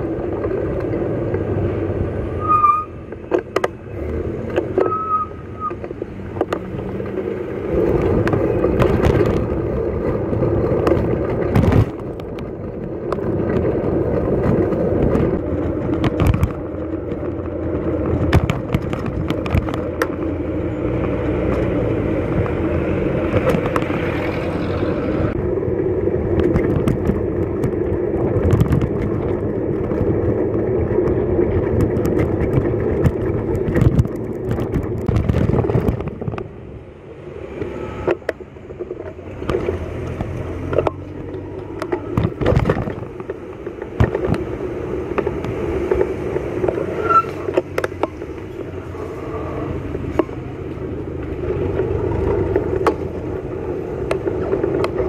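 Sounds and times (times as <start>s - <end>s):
traffic and road noise: 0.0s - 55.0s
bicycle knocks and rattles: 5.7s - 24.4s, 26.2s - 36.7s, 37.6s - 48.8s, 50.0s - 55.0s.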